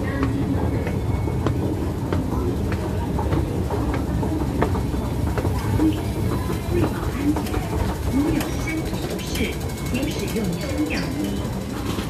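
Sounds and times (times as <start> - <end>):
escalator rumbling: 0.0 - 12.0
light clicks from escalator steps: 0.0 - 12.0.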